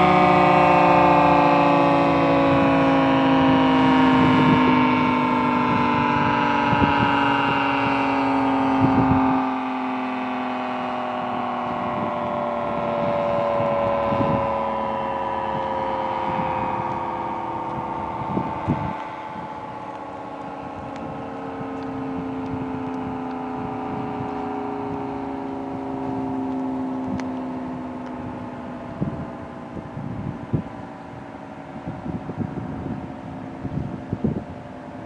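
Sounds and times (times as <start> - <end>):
two-tone warning siren winding down: 0.0 - 35.0.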